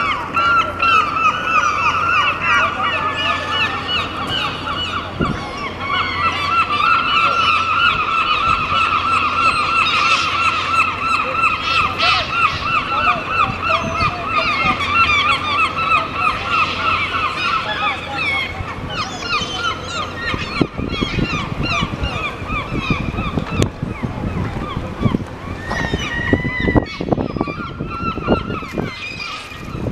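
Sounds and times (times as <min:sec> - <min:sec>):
gulls squawking: 0:00.0 - 0:29.9.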